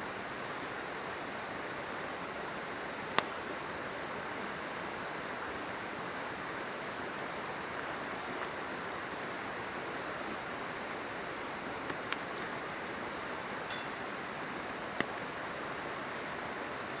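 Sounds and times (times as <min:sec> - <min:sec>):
river rushing: 0:00.0 - 0:17.0
campfire popping and crackling: 0:01.3 - 0:15.2.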